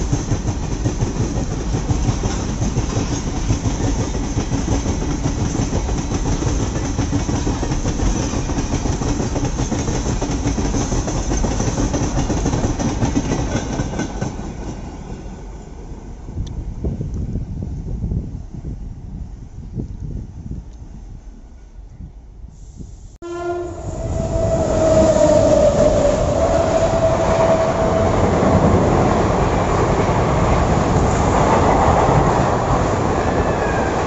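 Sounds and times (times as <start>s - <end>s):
freight train rumbling past: 0.0s - 22.5s, 23.2s - 34.0s.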